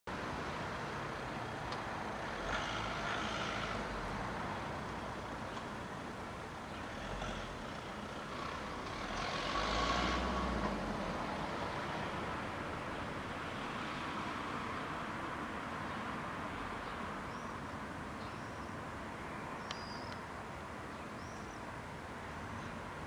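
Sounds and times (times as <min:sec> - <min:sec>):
road vehicles passing: 0:00.1 - 0:23.0.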